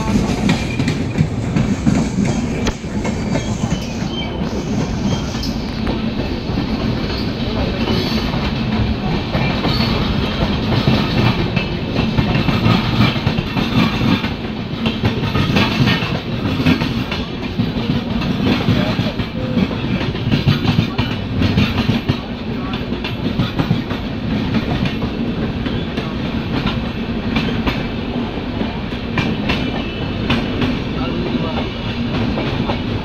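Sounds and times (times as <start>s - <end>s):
train coaches rumbling past: 0.0s - 33.0s.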